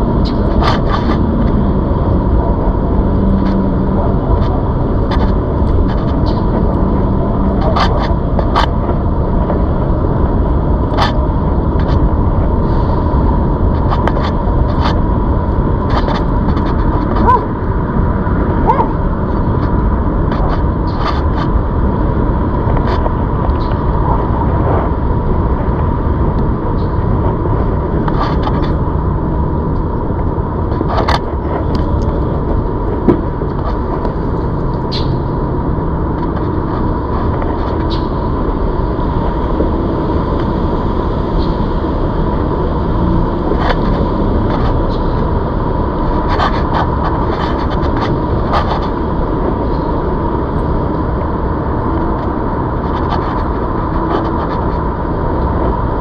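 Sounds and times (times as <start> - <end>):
electric bike rolling rumble: 0.0 - 56.0
wind: 0.0 - 56.0.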